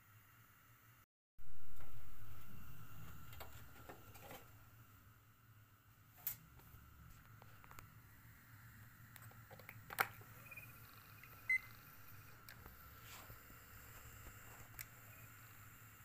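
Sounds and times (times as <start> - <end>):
faint motor whir: 0.0 - 16.0.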